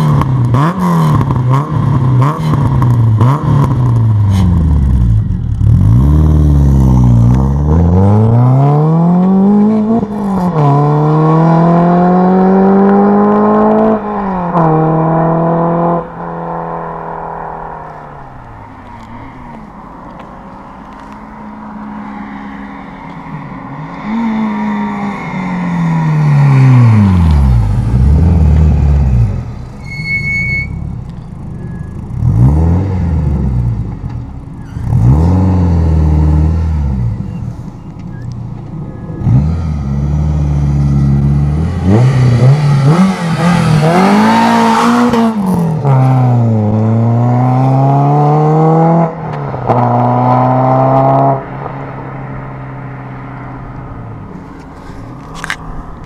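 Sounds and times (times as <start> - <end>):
car engine revving: 0.0 - 29.8, 30.5 - 56.0.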